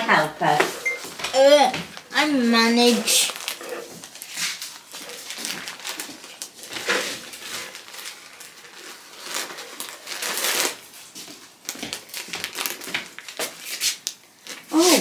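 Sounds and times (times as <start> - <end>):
plastic bag crinkling: 1.9 - 15.0.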